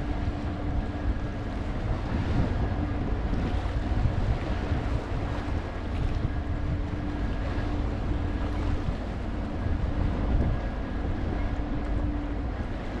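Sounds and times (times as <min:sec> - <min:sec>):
ship engines droning: 0:00.0 - 0:13.0
water washing along hull: 0:00.0 - 0:13.0
wind buffeting microphone: 0:00.0 - 0:13.0.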